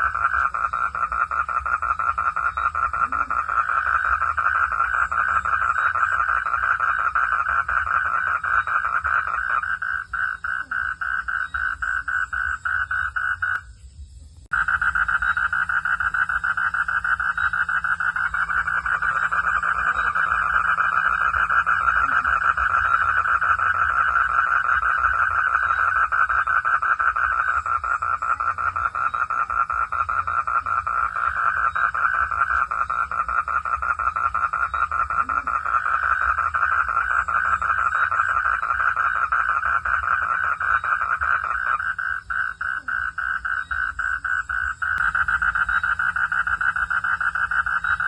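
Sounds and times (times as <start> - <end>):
frogs calling: 0.0 - 48.0.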